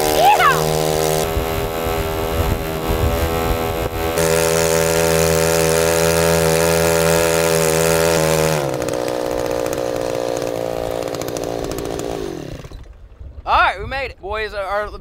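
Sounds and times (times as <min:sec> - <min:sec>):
outboard motor high-revving: 0:00.0 - 0:13.2.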